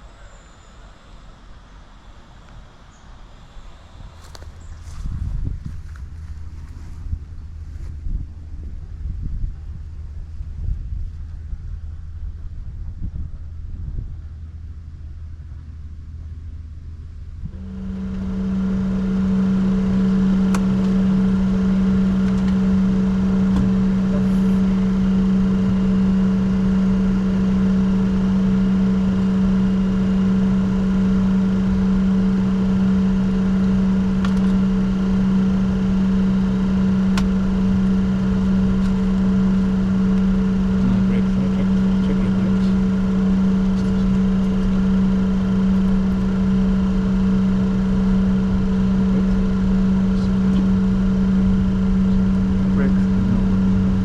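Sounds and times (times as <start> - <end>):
machine hum with rushing air: 0.0 - 54.0.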